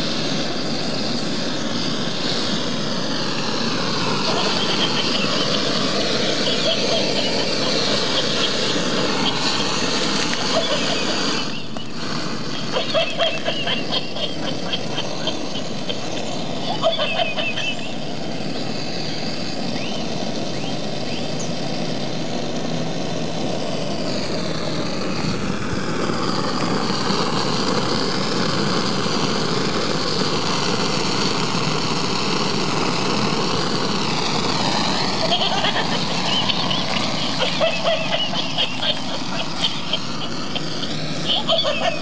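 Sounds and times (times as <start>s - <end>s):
blowtorch flame hissing: 0.0s - 42.0s.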